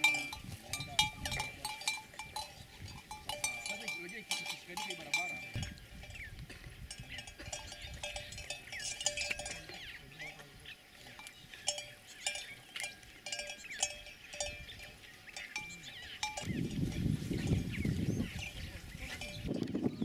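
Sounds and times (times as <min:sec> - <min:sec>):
livestock bells clanking: 0:00.0 - 0:20.0.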